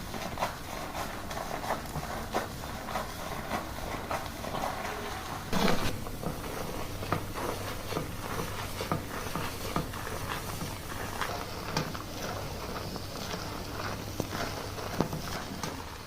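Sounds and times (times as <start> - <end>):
hands scrubbing scalp: 0.0 - 16.0.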